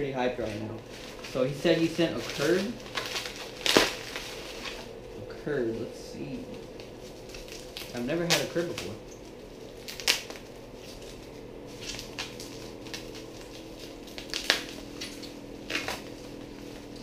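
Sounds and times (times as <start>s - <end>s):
steady low hum: 0.0s - 17.0s
plastic packaging crinkling: 0.2s - 17.0s.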